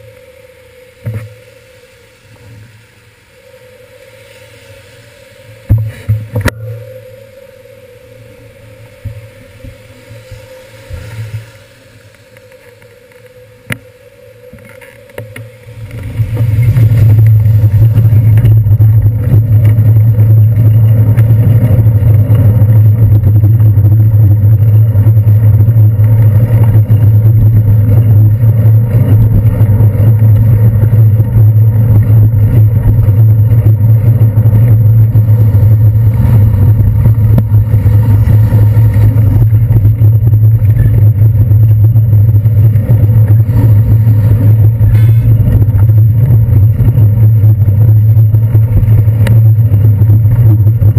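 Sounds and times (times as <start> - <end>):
wind and road rumble: 0.0 - 50.9.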